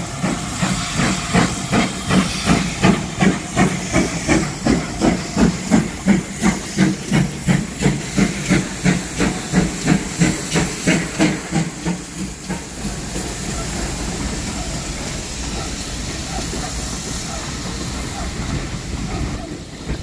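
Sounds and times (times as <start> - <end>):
coaches rolling on rails: 0.0 - 20.0
steam locomotive exhaust beats: 0.0 - 20.0.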